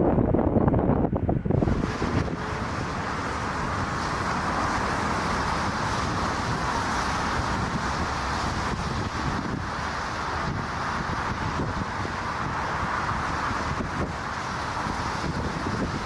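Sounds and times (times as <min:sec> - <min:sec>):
heavy low rumble: 0:00.0 - 0:16.0
jet engines running: 0:00.0 - 0:16.0.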